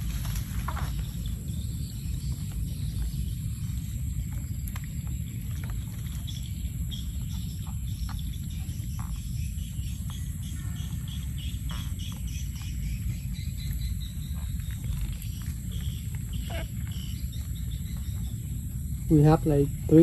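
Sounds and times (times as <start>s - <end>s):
high drone of insects: 0.0s - 20.0s
low rumble: 0.0s - 20.0s
eels slithering in basket: 2.0s - 19.1s.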